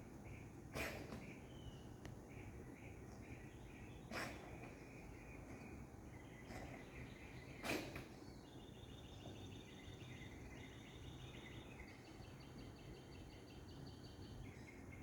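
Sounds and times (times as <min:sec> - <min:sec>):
faint high chirping: 0:00.1 - 0:15.0.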